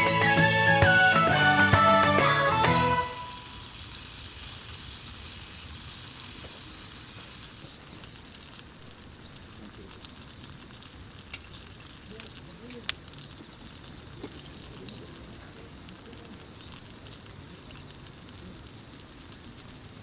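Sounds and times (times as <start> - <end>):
insect chorus chirring: 0.0 - 20.0.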